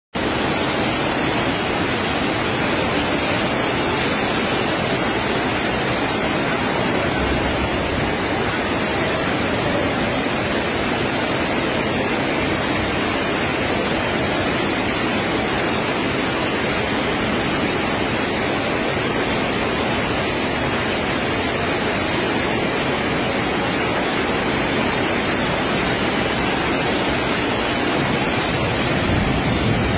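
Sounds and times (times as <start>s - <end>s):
floodwater rushing: 0.2s - 29.9s.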